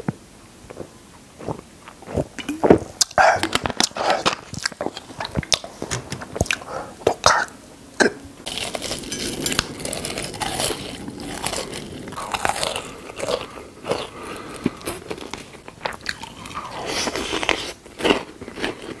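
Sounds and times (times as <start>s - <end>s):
crunchy biting and chewing: 0.7s - 7.4s, 8.4s - 19.0s.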